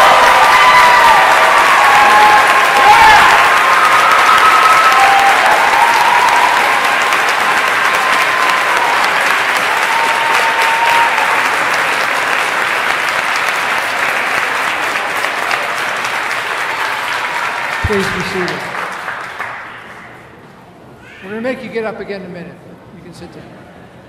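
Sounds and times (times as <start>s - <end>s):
large crowd clapping: 0.0s - 20.4s.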